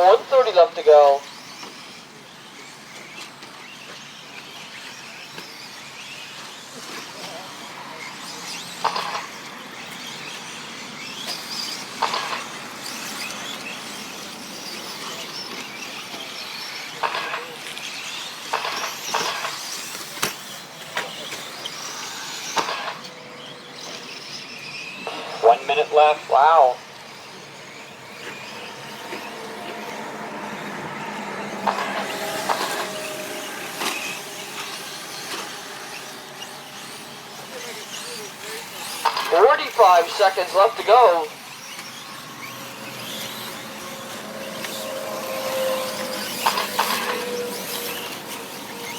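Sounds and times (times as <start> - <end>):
rc truck motors whining: 0.0 - 25.4, 26.2 - 40.2, 40.8 - 48.9.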